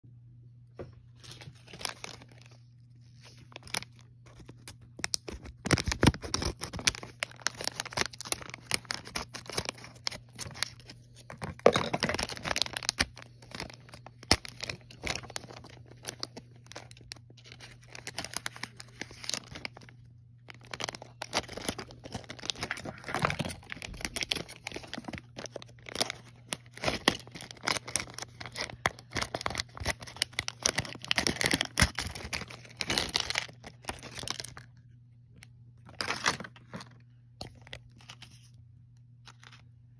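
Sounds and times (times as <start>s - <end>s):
foil packet crinkling: 1.2s - 35.0s, 35.8s - 39.9s.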